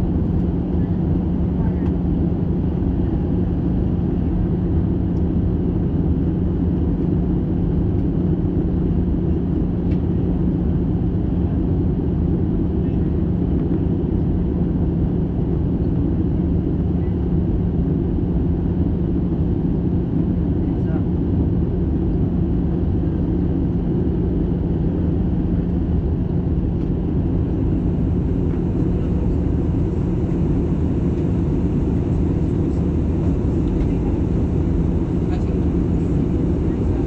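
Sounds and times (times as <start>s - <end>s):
constant low hum: 0.0s - 37.0s
jet cabin engine and airflow rush: 0.0s - 37.0s.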